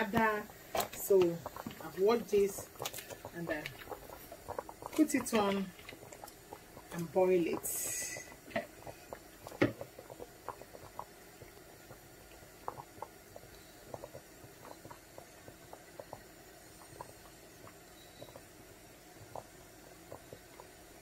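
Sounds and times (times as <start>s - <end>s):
pot boiling and bubbling: 0.0s - 21.0s.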